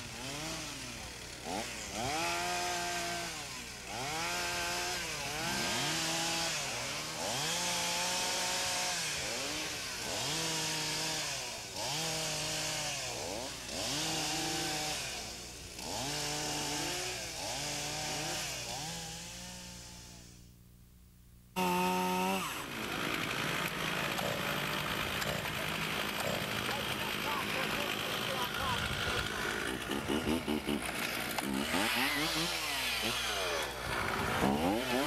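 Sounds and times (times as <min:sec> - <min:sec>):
chainsaw revving: 0:00.0 - 0:20.5, 0:21.6 - 0:35.0.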